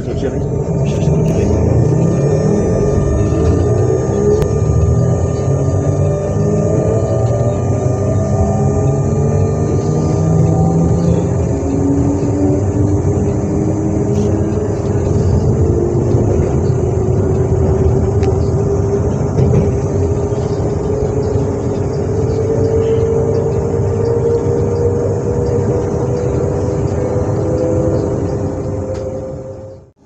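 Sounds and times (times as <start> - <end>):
electric train rumble and whine: 0.0 - 30.0.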